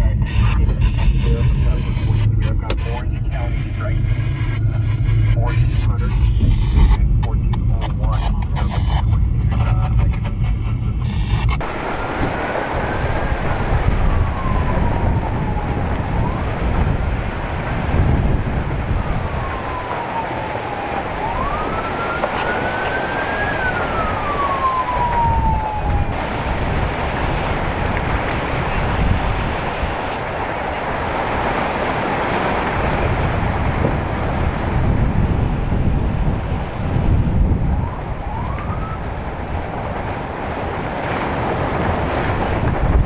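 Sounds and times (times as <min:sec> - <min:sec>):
emergency siren wailing: 0:00.0 - 0:07.4, 0:11.6 - 0:43.0
loud rushing noise with rumble: 0:00.0 - 0:43.0.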